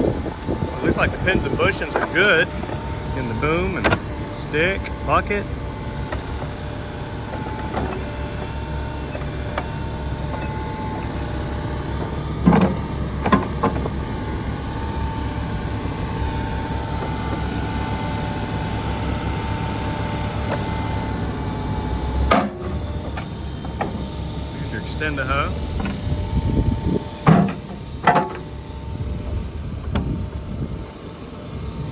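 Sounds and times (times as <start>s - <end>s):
backhoe diesel engine running: 0.0s - 31.9s.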